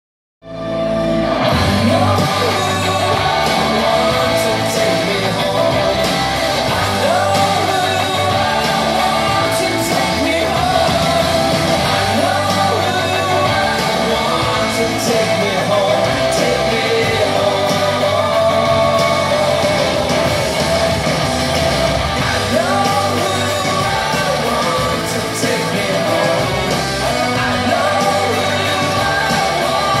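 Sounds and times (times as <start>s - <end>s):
loud music with singing: 0.6s - 30.0s.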